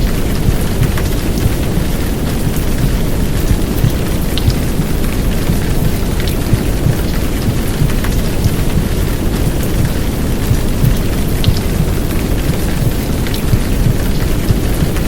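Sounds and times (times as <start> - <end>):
heavy rain downpour: 0.0 - 15.0
water drip ticks: 0.0 - 15.0
white noise: 0.0 - 15.0.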